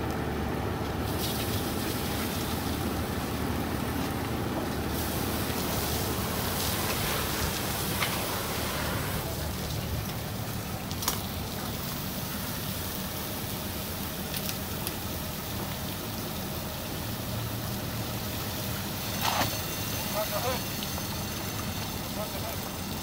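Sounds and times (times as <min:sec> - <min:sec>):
low engine drone: 0:00.0 - 0:23.0
burning vehicle hissing and sizzling: 0:01.0 - 0:23.0.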